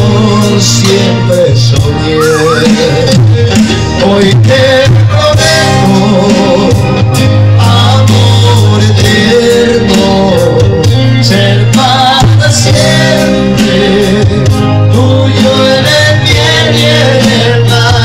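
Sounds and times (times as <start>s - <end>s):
guitar: 0.0s - 18.0s
keyboard: 0.0s - 18.0s
latin band over loud pa: 0.0s - 18.0s
steady bass line: 0.0s - 18.0s.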